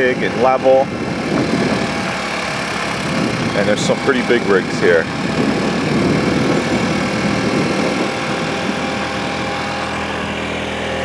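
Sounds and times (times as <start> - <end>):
vehicle engine noise: 0.0 - 11.0.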